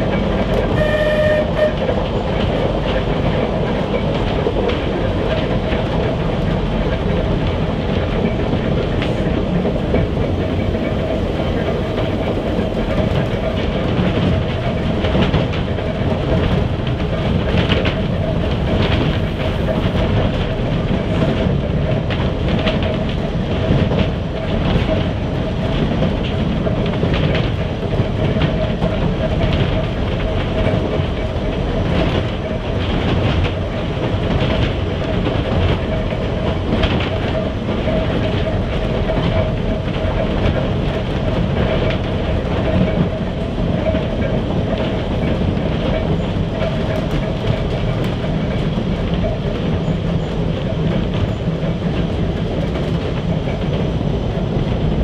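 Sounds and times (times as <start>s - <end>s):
tram rumble and whine: 0.0s - 55.0s
wheels clacking over rail joints: 0.0s - 55.0s.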